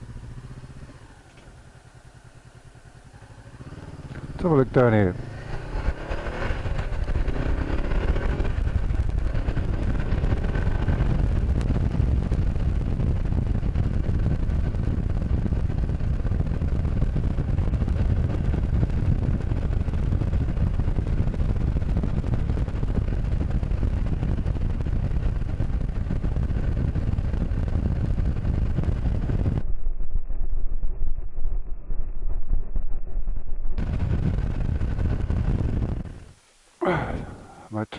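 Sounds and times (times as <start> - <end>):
motorcycle engine running: 0.0 - 29.8, 32.3 - 37.9
wind and road noise: 0.0 - 37.9.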